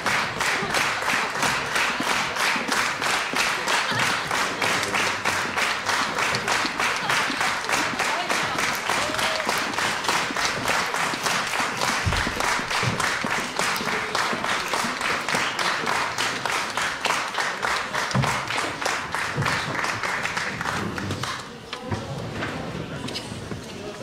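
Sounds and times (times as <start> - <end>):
audience applauding rhythmically: 0.0 - 21.6.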